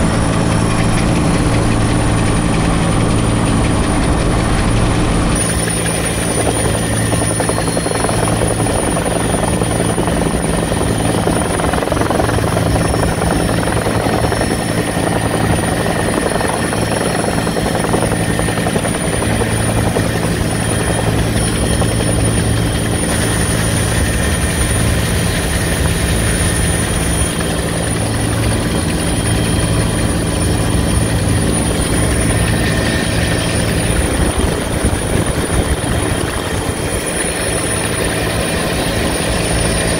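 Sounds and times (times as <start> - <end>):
helicopter rotor and engine: 0.0 - 39.9
high steady whine: 0.0 - 39.9.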